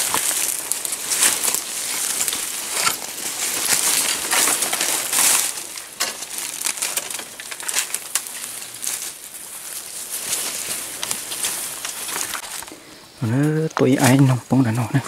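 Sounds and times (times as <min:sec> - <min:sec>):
brushing through undergrowth: 0:00.0 - 0:14.4
footsteps crunching through leaves: 0:00.0 - 0:14.4
dry twigs crackling: 0:00.0 - 0:14.6.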